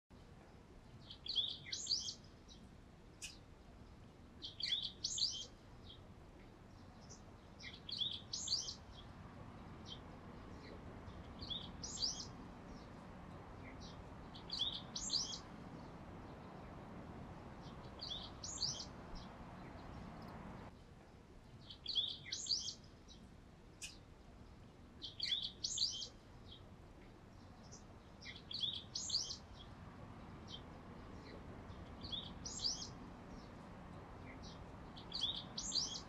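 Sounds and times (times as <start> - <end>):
faint background hum: 0.1 - 36.0
songbird singing high chirps: 1.0 - 20.7, 21.6 - 24.1, 25.0 - 26.7, 27.3 - 36.0.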